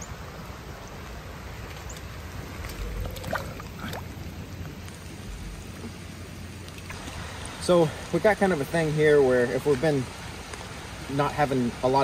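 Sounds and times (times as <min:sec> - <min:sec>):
rain falling on water: 0:00.0 - 0:12.0.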